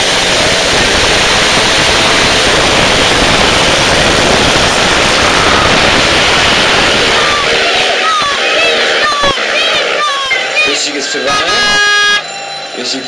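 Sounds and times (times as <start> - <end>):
motorcycles racing at full throttle: 0.0 - 12.2.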